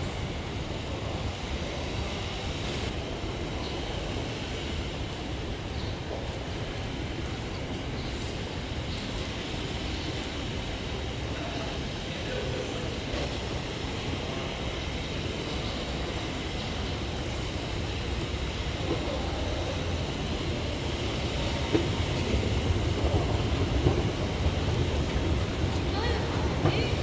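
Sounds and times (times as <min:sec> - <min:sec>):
high-speed train rumble and hiss: 0:00.0 - 0:27.0.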